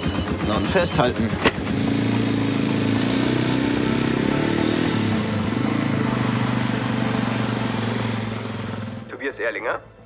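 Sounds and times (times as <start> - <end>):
motorcycle engine pulling away: 0.0 - 9.1.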